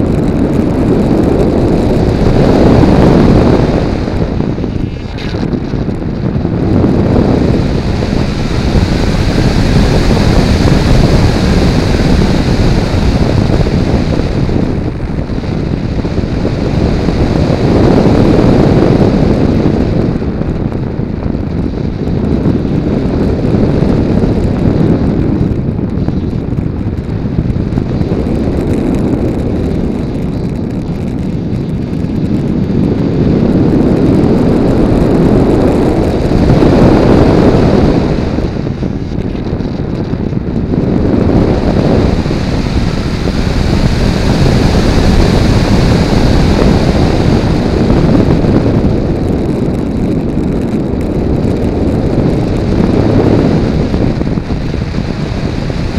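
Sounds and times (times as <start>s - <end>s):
electric motor and propeller whine: 0.0s - 55.9s
heavy wind rush: 0.0s - 55.9s.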